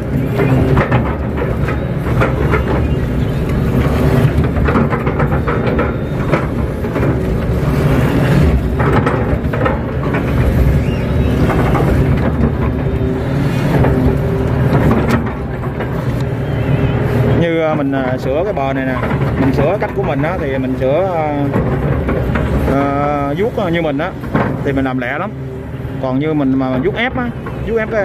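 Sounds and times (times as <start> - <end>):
excavator diesel engine running: 0.0 - 28.0
faint knocks and scrapes: 0.0 - 28.0
hydraulics working: 0.0 - 28.0.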